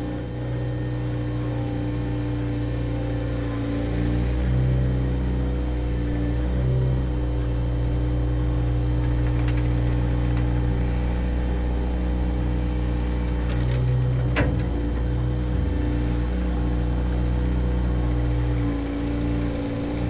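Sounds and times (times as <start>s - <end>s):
loader engine running: 0.0s - 20.0s.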